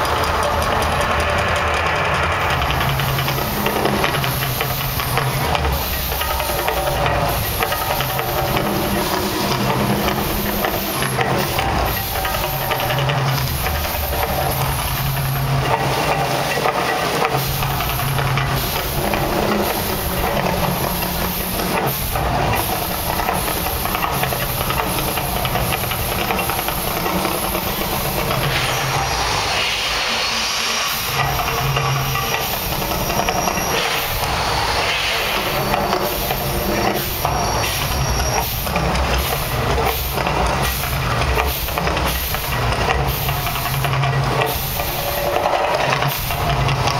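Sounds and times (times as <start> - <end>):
hissing rush of water and fire: 0.0 - 46.9.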